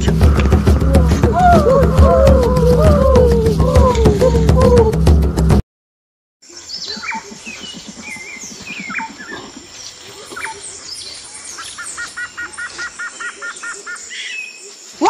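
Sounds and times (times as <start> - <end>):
birds chirping and calling: 0.0 - 5.0, 6.5 - 15.0.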